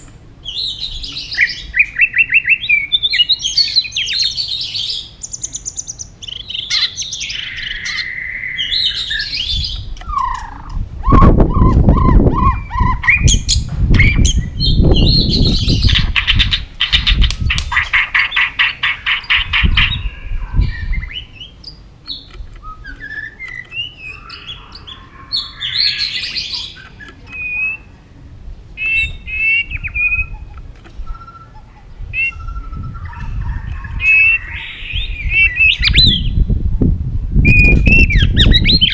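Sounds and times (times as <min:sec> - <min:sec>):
bird singing whistles and trills: 0:00.4 - 0:27.9, 0:28.8 - 0:36.5, 0:37.4 - 0:38.9.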